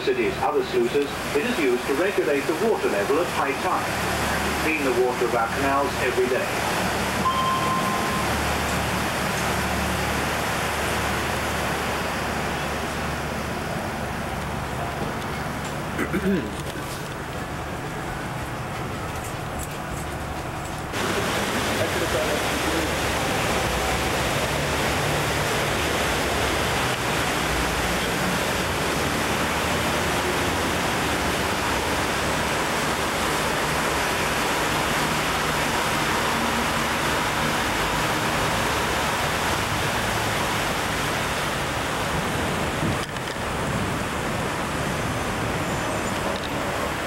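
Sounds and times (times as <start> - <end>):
boat rushing through water: 0.0 - 47.0
low engine drone: 0.0 - 47.0.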